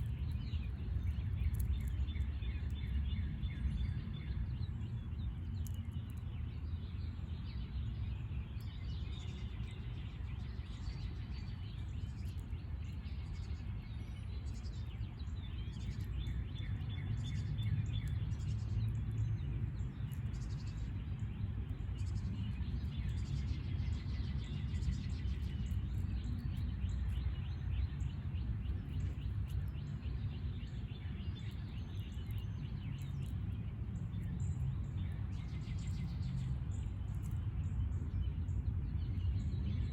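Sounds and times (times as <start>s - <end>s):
low background rumble: 0.0s - 39.9s
small birds trilling: 0.0s - 39.9s.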